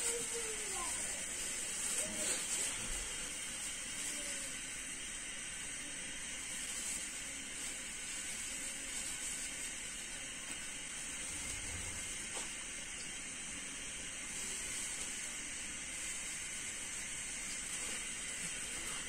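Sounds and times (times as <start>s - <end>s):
batter frying in hot oil: 0.0s - 19.0s.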